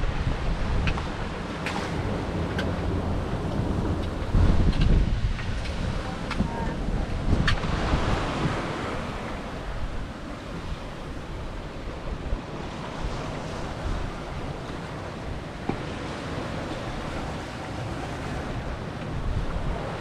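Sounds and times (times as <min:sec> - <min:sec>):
sea waves breaking: 0:00.0 - 0:20.0
wind buffeting microphone: 0:00.0 - 0:20.0.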